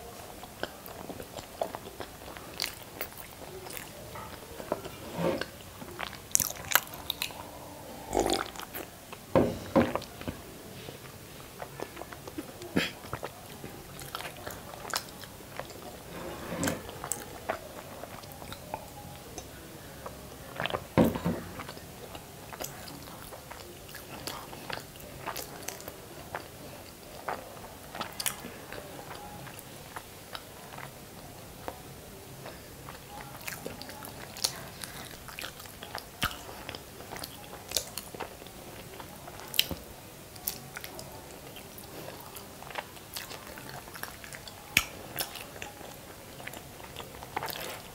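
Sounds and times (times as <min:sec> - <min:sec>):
wet chewing sounds: 0:00.0 - 0:09.3, 0:09.9 - 0:47.9.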